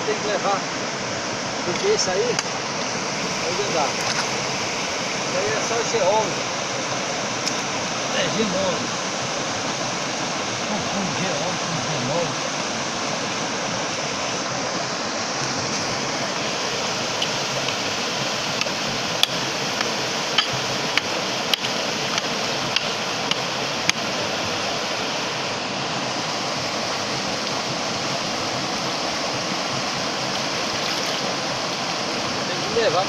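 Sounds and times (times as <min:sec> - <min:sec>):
stream water flowing over rocks: 0:00.0 - 0:33.0.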